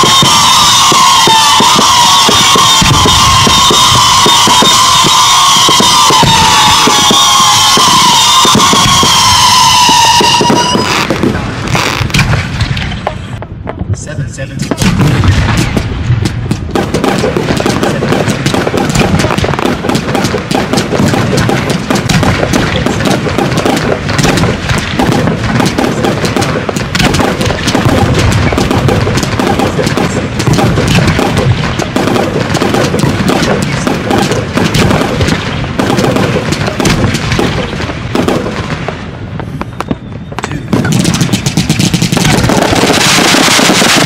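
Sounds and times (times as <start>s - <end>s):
fireworks barrage: 0.0s - 44.0s.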